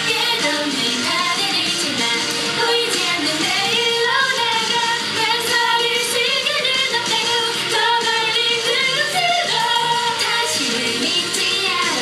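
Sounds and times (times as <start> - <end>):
pop song playing: 0.0 - 12.0
woman singing: 0.0 - 12.0.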